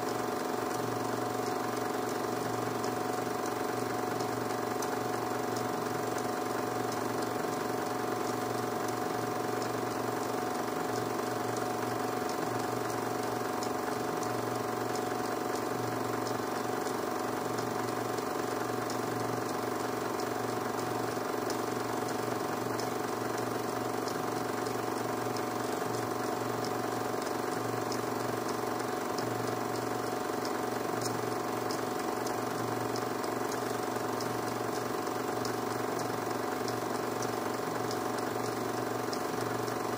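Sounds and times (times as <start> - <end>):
film projector hum: 0.0 - 39.9
projector mechanism ticking: 0.0 - 39.9.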